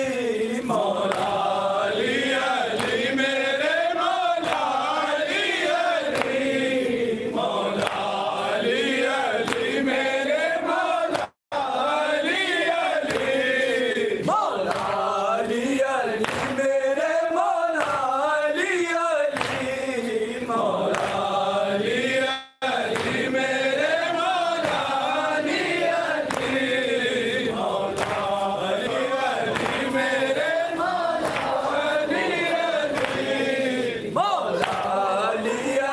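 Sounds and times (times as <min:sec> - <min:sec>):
men chanting a lament: 0:00.0 - 0:35.9.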